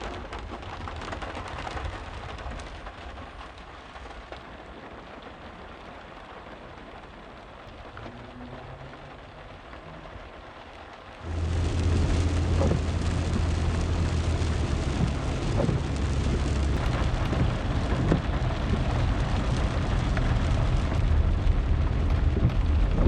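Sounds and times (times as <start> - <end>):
steady rain tapping: 0.0 - 23.0.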